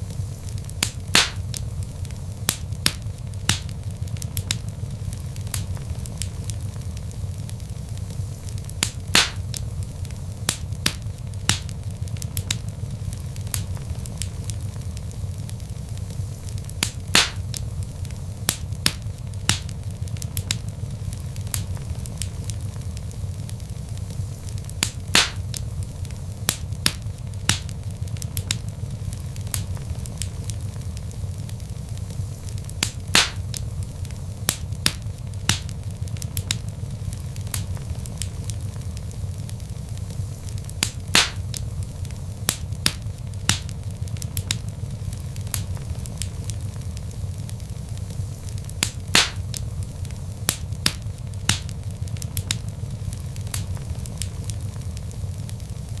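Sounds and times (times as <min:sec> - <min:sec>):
fire pops: 0:00.0 - 0:56.0
log fire crackling: 0:00.0 - 0:56.0
low rumble of flames: 0:00.0 - 0:56.0.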